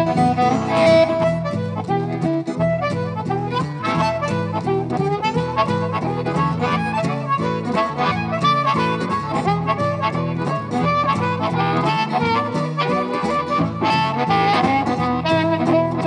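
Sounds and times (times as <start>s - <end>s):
acoustic guitar rhythm: 0.0s - 16.0s
blues harmonica solo: 0.0s - 16.0s.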